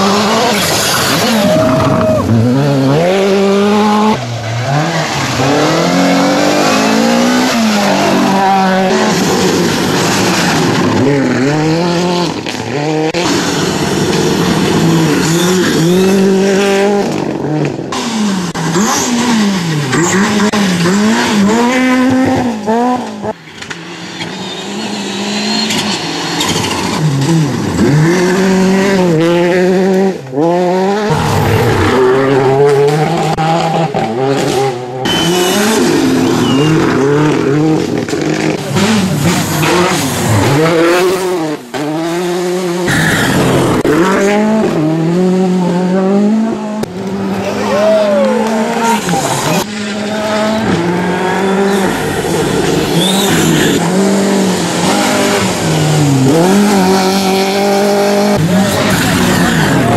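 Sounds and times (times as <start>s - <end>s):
rally car engines revving hard: 0.0s - 59.9s.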